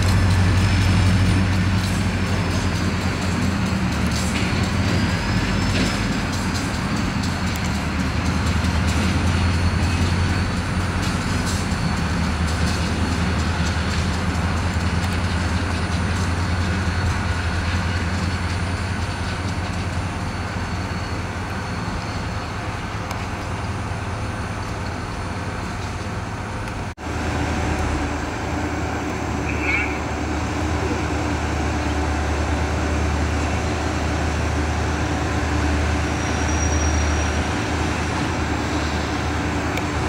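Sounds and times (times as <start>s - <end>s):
diesel locomotive engine droning: 0.0s - 40.0s
train wheel and car noise: 0.0s - 40.0s.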